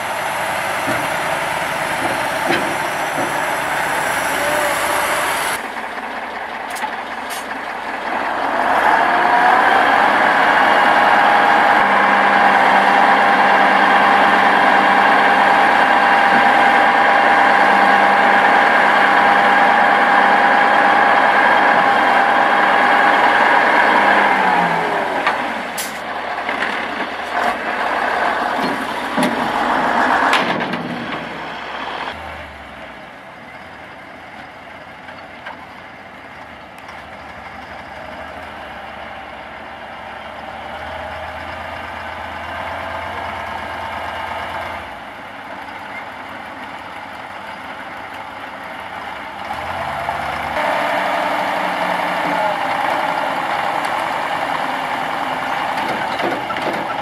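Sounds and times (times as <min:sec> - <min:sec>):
dump truck engine revving: 0:00.0 - 0:57.0.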